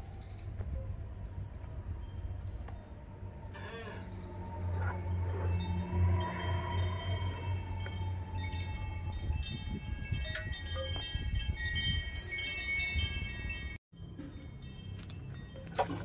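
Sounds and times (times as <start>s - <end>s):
wind chimes ringing: 0.0s - 3.6s, 5.0s - 16.0s.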